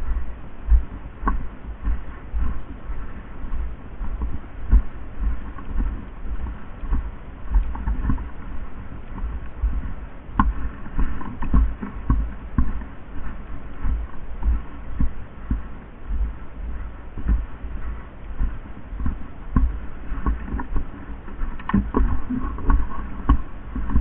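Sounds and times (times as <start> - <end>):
low thuds and rustling: 0.0 - 24.0.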